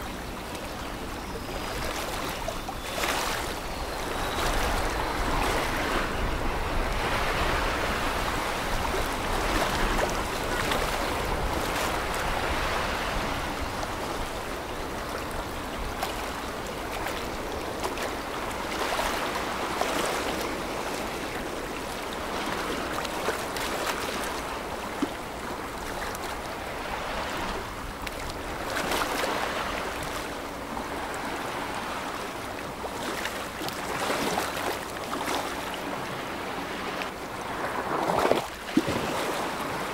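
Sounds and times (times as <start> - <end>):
water splashing against riverbank: 6.9 - 39.9.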